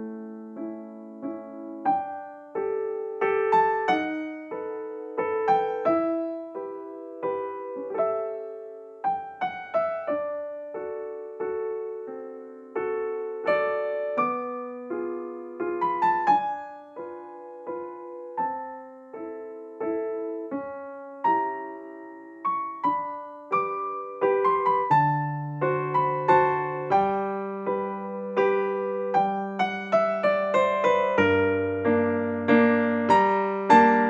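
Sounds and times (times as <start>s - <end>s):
soft solo piano music: 0.0s - 34.0s.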